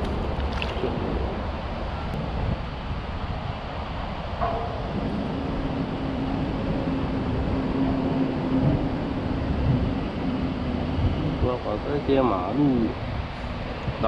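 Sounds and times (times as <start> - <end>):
low drone of traffic: 0.0 - 14.0
wind rumble on microphone: 0.0 - 14.0.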